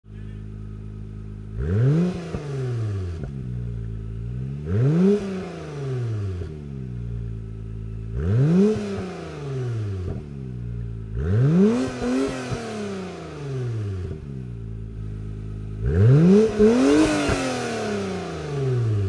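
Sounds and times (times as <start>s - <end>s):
car engine revving from idle: 0.4s - 19.0s.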